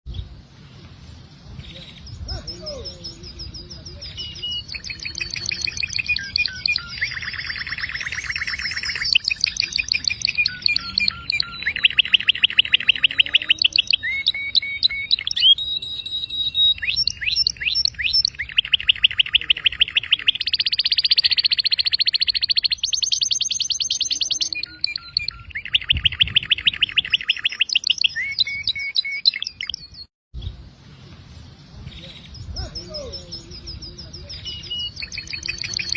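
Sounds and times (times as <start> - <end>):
canary singing trills: 1.6 - 30.6, 31.8 - 35.9.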